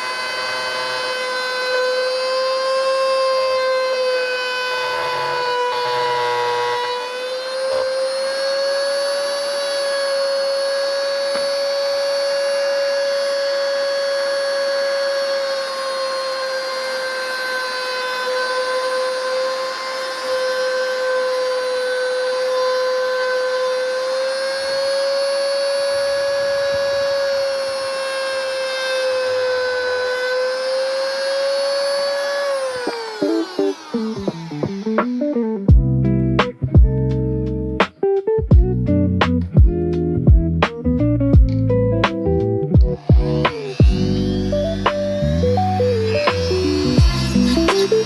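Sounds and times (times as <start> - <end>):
mini grinder whining: 0.0 - 35.9, 41.5 - 42.2, 42.8 - 48.0.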